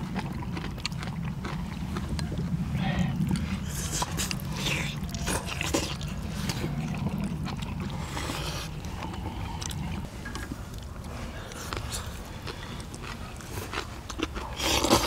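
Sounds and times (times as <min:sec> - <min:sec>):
low steady rumble: 0:00.0 - 0:15.0
people chewing: 0:00.0 - 0:15.0.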